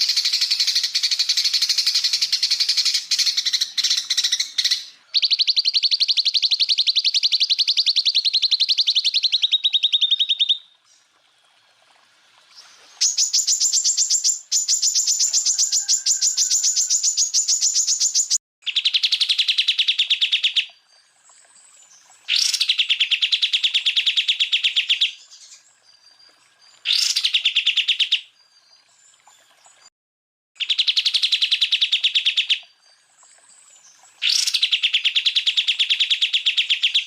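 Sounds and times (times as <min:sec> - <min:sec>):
bird singing rapid repeated notes: 0:00.0 - 0:10.6, 0:13.0 - 0:21.0, 0:21.9 - 0:25.9, 0:26.8 - 0:28.6, 0:30.6 - 0:37.0.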